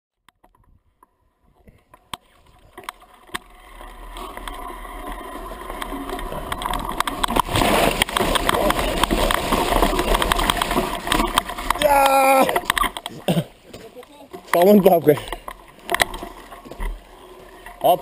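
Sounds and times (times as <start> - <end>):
rush of water noise: 3.3 - 18.0.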